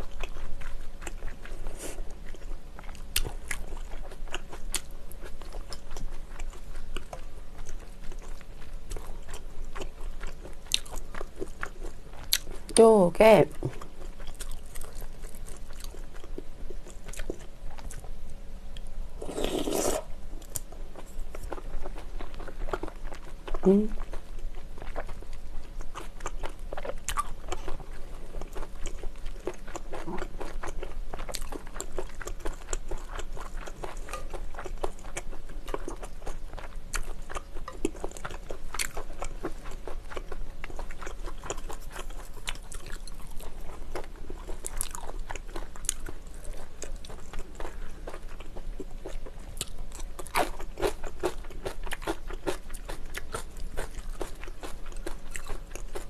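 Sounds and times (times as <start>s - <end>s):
close chewing with mouth clicks: 0.0s - 12.7s, 13.5s - 18.1s, 18.7s - 56.0s.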